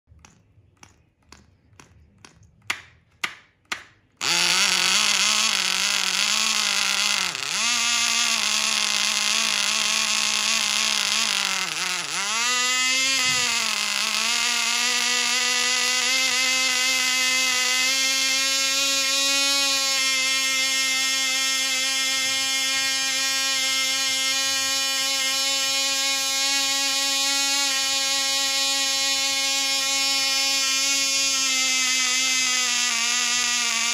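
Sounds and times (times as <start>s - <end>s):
model engine high-pitched buzz: 4.2s - 33.9s.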